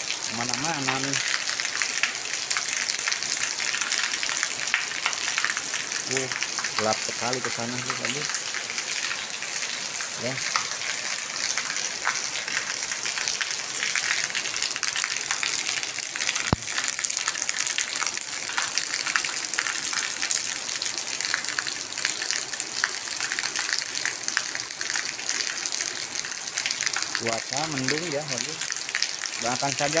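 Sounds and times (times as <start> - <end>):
rain on concrete: 0.0 - 30.0
water pouring from drain spout: 0.0 - 30.0.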